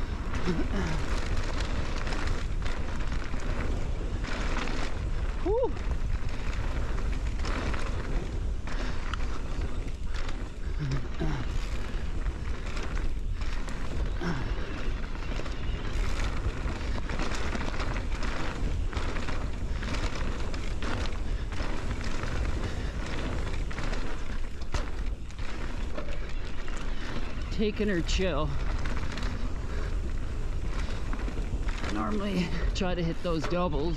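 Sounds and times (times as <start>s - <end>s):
bike knocks and rattles: 0.0s - 27.5s
tyre noise on dirt: 0.0s - 33.9s
wind buffeting microphone: 0.0s - 33.9s.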